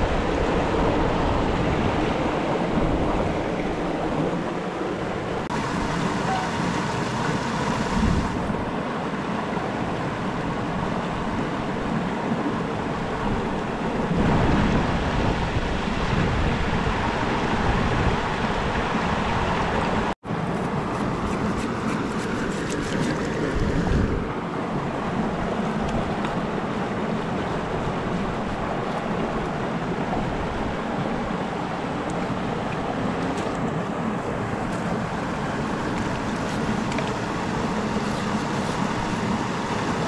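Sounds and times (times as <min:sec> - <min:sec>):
river rushing over stones: 0:00.0 - 0:40.0.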